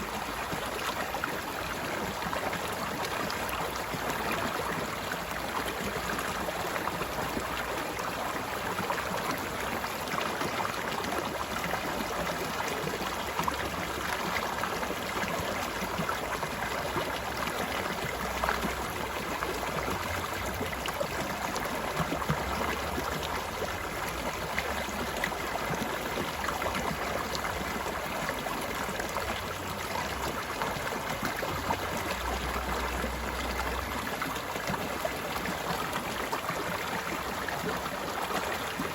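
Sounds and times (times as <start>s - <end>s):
mountain stream babbling: 0.0s - 38.9s.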